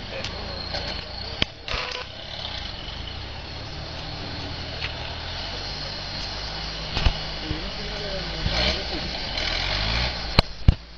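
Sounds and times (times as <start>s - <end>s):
engine running at low revs: 0.0s - 10.9s.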